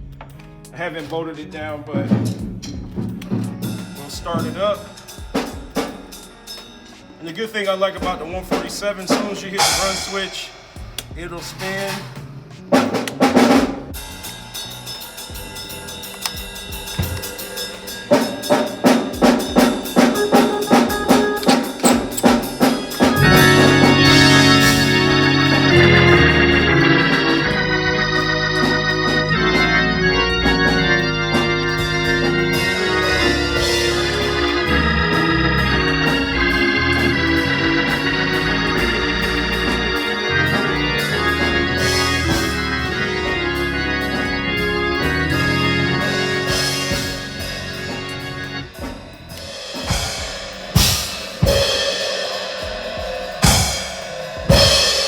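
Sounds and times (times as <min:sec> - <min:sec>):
organ chords: 0:00.0 - 0:55.0.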